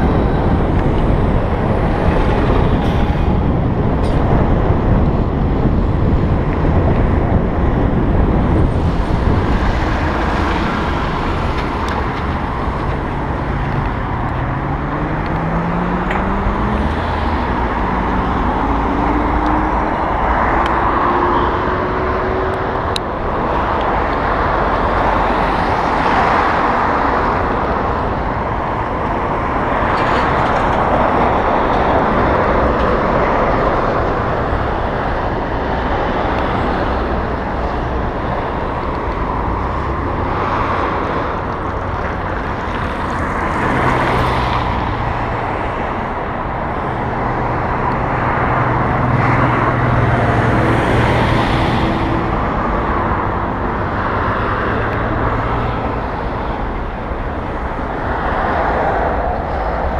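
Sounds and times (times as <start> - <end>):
road traffic: 0.0 - 59.9
wind on microphone: 0.0 - 59.9.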